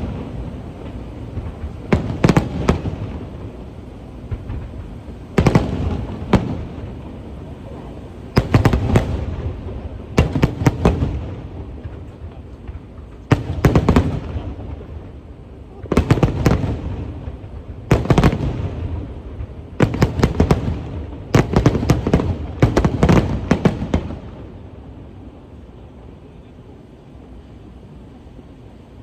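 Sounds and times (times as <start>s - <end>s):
fireworks cracking: 0.0s - 25.7s
low background noise: 0.0s - 29.0s.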